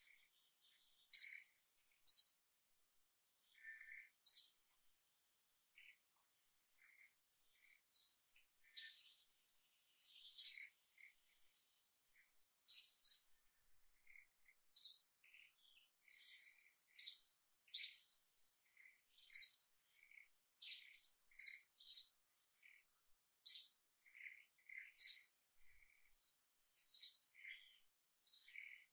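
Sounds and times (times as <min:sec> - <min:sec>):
birds chirping: 0:00.0 - 0:28.9.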